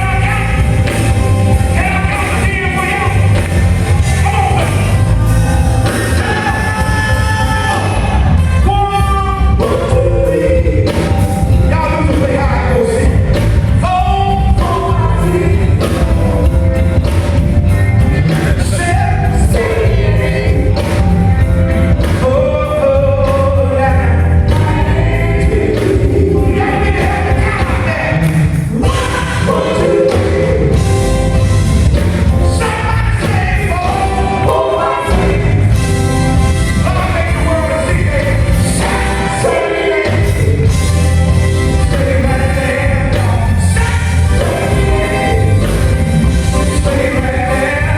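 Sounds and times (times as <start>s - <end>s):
band with drums and bass: 0.0s - 47.9s
choir singing gospel: 0.0s - 47.9s.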